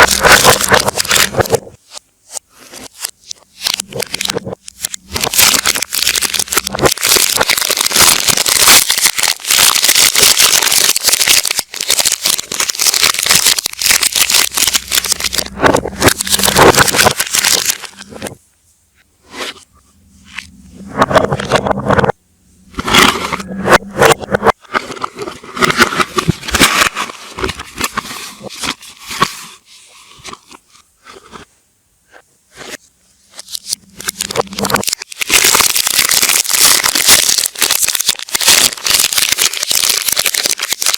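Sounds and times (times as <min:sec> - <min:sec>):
reversed packaging crinkling: 0:00.0 - 0:18.4, 0:19.2 - 0:22.0, 0:22.6 - 0:31.5, 0:32.5 - 0:40.9.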